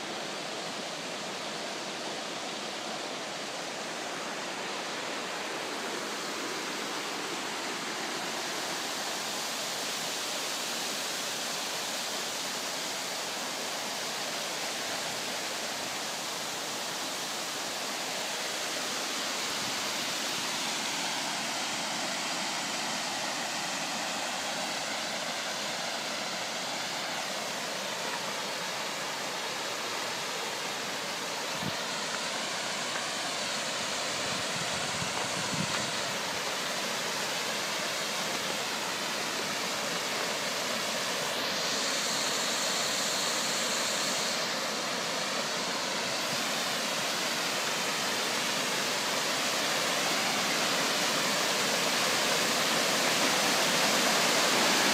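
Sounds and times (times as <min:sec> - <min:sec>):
floodwater rushing: 0:00.0 - 0:54.9.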